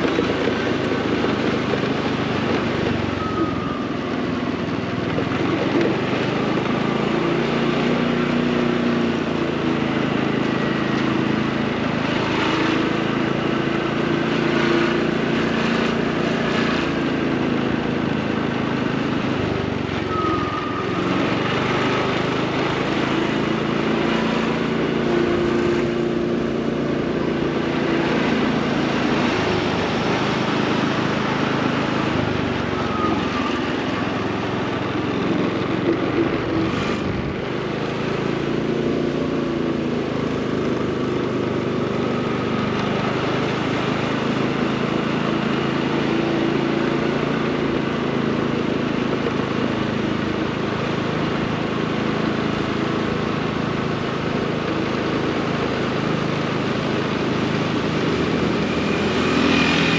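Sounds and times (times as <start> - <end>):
motorcycle engine running: 0.0 - 59.9
road and street noise: 0.0 - 59.9.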